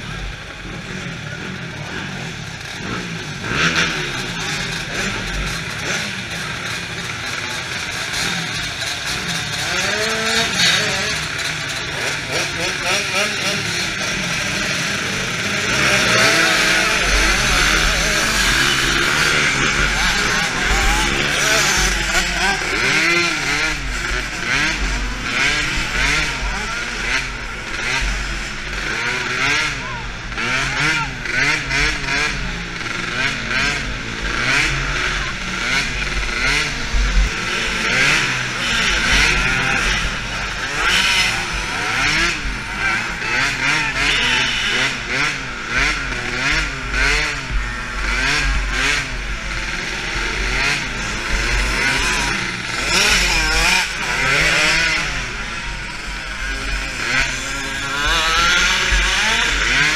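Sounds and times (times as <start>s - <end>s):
small quad engine revving: 0.0s - 59.9s.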